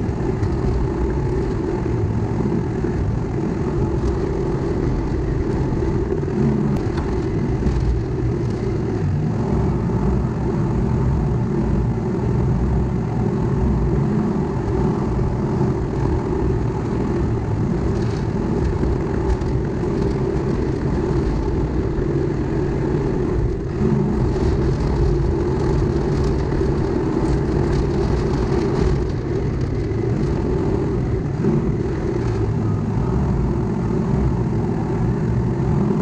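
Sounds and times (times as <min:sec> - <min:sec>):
bulldozer diesel engine under load: 0:00.0 - 0:36.0.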